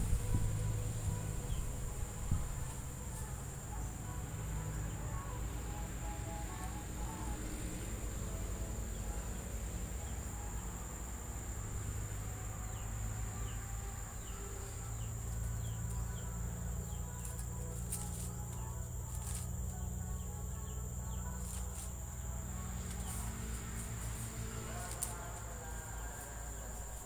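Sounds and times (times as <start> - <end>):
high-pitched insect drone: 0.0 - 27.0
low steady rumble: 0.0 - 27.0.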